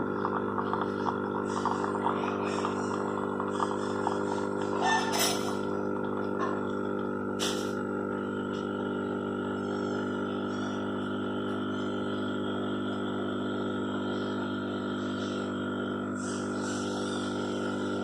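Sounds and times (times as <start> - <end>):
espresso machine pump humming: 0.0 - 18.0.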